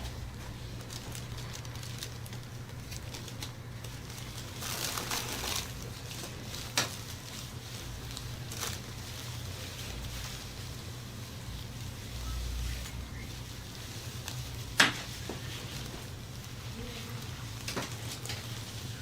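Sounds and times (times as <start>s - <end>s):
rustling movement: 0.0s - 19.0s
steady low hum: 0.0s - 19.0s.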